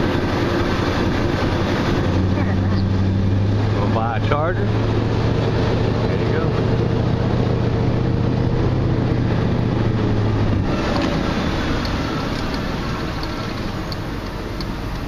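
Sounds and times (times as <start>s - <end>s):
low engine hum: 0.0s - 15.0s
road noise: 0.0s - 15.0s.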